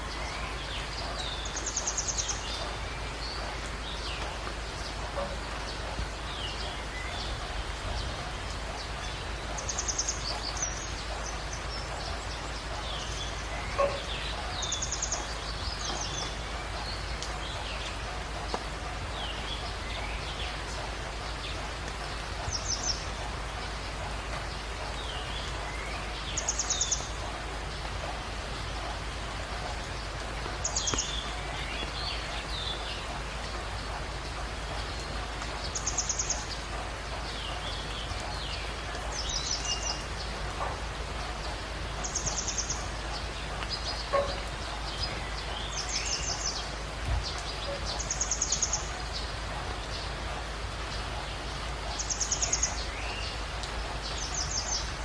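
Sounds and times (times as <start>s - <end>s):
birds chirping softly: 0.0s - 55.0s
steady hiss: 0.0s - 55.0s.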